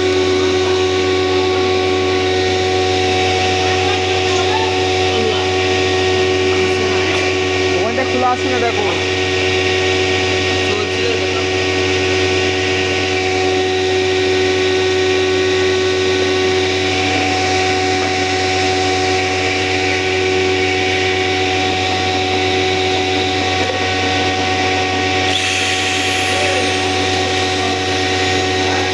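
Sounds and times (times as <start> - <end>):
power tool motor whine: 0.0 - 28.9.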